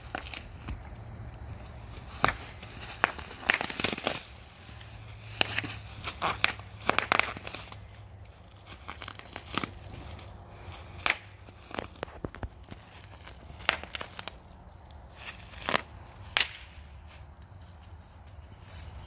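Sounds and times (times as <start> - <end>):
bubble wrap popping: 0.0 - 17.4
crinkling plastic: 0.0 - 19.0.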